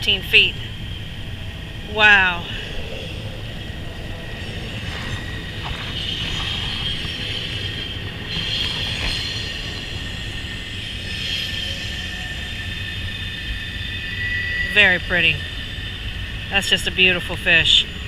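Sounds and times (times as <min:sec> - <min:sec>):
freight train rumble: 0:00.0 - 0:18.0
high wheel squeal: 0:00.0 - 0:18.0.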